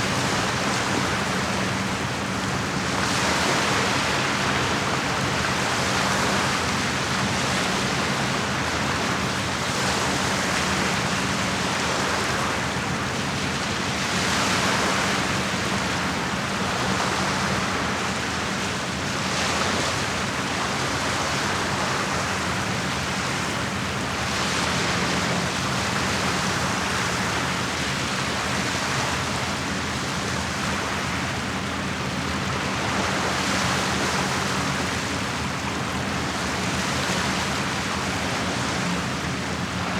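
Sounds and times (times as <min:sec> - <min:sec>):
waves washing against shore: 0:00.0 - 0:39.9.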